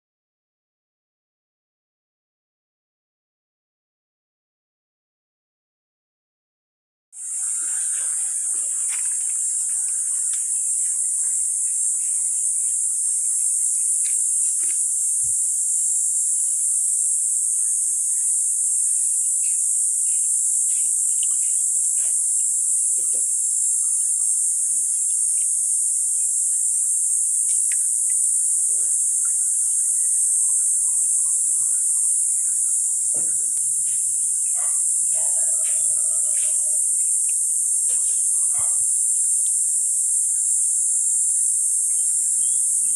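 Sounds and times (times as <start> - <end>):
insects chirring: 7.2 - 42.9.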